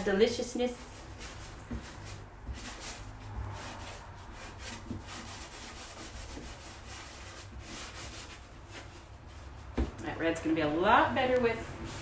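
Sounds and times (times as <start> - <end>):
foam brush scrubbing wood panel: 0.0 - 9.8.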